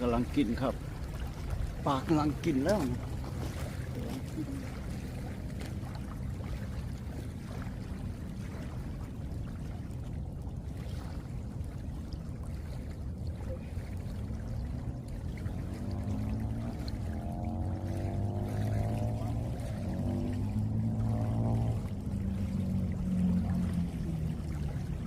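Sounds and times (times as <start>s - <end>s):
lake water lapping: 0.0s - 25.0s
wind: 0.0s - 25.0s.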